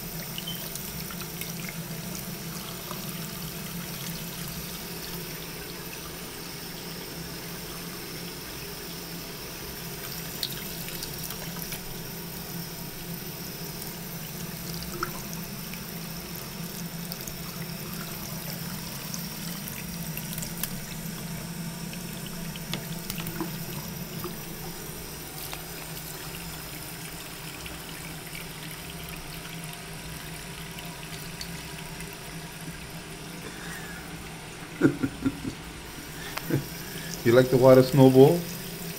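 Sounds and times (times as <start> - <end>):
faucet running into sink: 0.0 - 34.4, 35.3 - 38.9.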